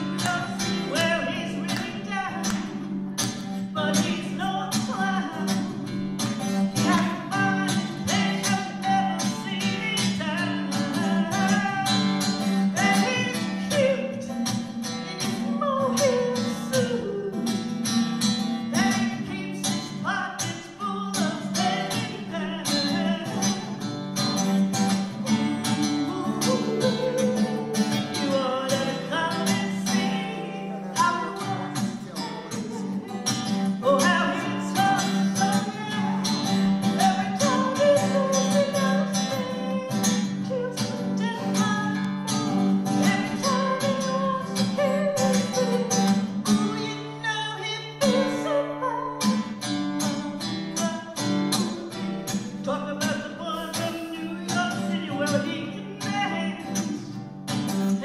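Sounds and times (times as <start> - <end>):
woman singing: 0.0 - 6.0, 6.8 - 14.3, 15.2 - 17.8, 18.7 - 23.8, 25.2 - 57.2
strummed acoustic guitar: 0.0 - 58.0.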